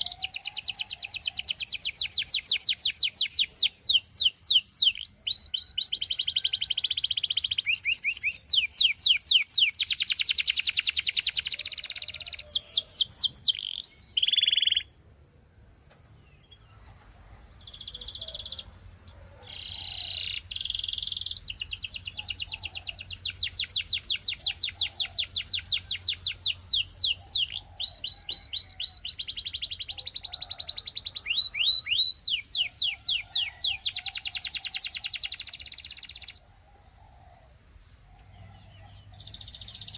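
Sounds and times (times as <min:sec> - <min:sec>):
canary singing trills: 0:00.0 - 0:15.0, 0:16.1 - 0:36.5, 0:38.1 - 0:39.9.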